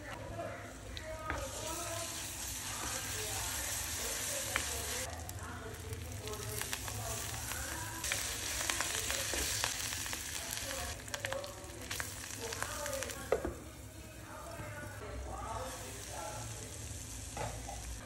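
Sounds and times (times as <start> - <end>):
onions sizzling in hot oil: 0.9 - 18.0.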